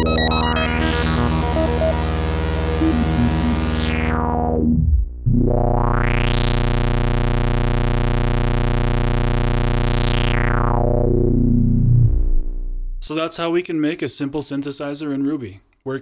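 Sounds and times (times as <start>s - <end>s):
synthesizer filter sweep: 0.0s - 13.0s.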